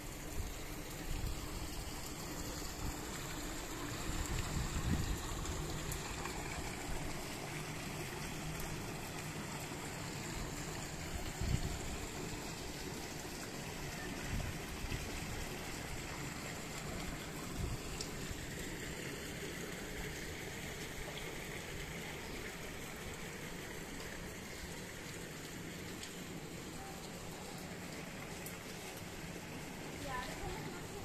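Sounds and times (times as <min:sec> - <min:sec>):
brook flowing over pebbles: 0:00.0 - 0:31.0
fountain spout pouring: 0:00.0 - 0:31.0.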